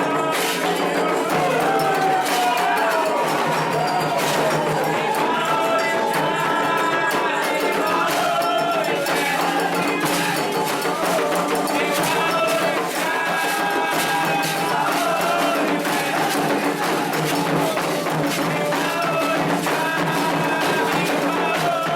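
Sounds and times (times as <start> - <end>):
percussion strikes: 0.0 - 21.9
voices singing a chant: 0.0 - 21.9.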